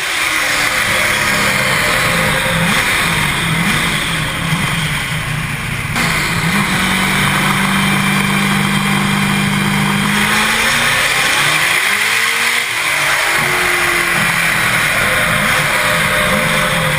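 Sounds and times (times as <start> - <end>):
loud truck engine running: 0.0 - 16.9.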